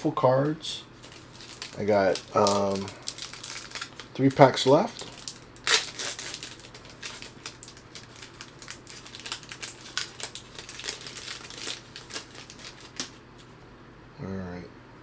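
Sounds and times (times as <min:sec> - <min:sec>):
card pack wrapper crinkling: 0:01.0 - 0:13.5.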